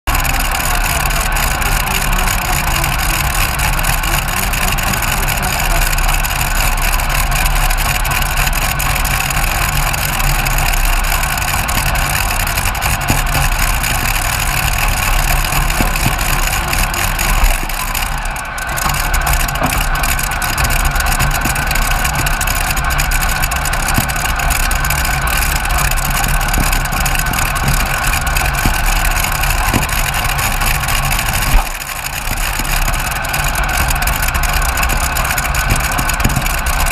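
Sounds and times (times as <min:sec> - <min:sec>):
aero engines idling loudly: 0:00.0 - 0:36.9.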